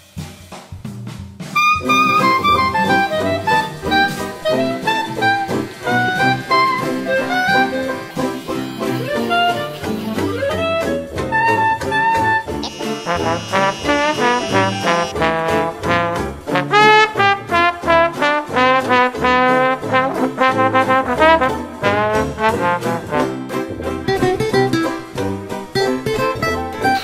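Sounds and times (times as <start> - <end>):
jazz music with brass horns: 0.9 - 27.0.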